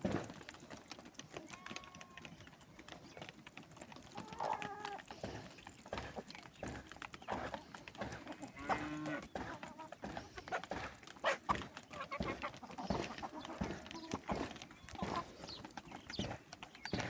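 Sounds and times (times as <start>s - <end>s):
farm animals calling: 1.3s - 17.0s.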